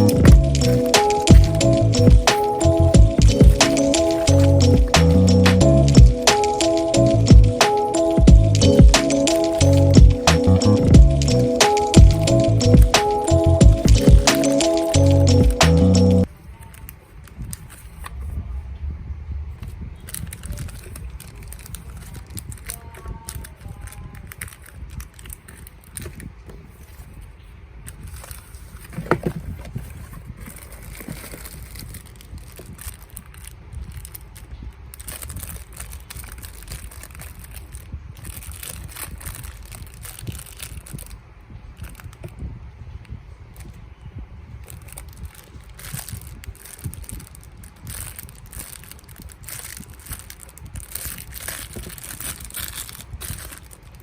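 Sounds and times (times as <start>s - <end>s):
plastic packaging crinkling: 0.0s - 7.0s, 7.7s - 15.4s, 19.6s - 42.5s, 43.5s - 54.0s.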